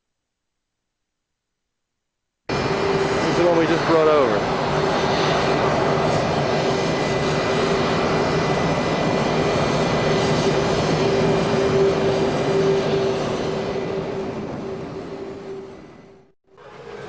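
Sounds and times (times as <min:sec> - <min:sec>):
jet engine whine: 0:02.5 - 0:17.0.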